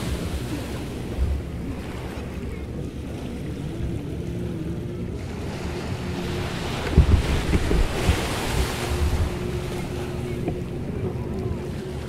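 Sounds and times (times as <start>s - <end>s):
waves breaking on beach: 0.0s - 12.0s
wind buffeting microphone: 0.0s - 12.0s.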